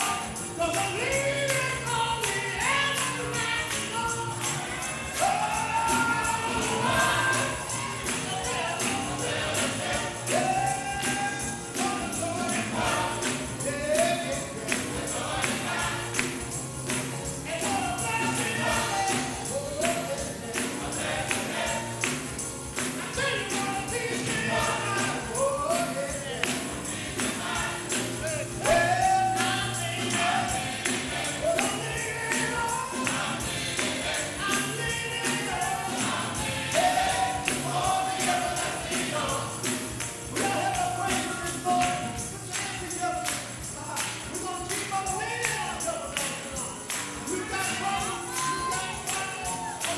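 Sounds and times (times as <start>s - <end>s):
gospel choir singing: 0.0s - 49.9s
tambourine shaken: 0.0s - 49.9s.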